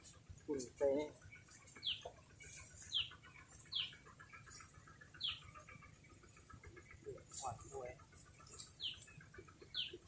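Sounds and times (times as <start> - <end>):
faint fast ticking chirr: 0.0 - 10.0.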